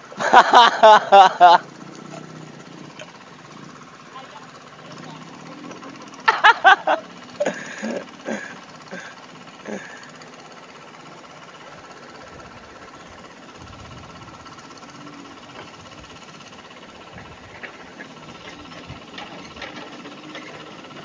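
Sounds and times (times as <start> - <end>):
faint mechanical hum: 0.0 - 21.0.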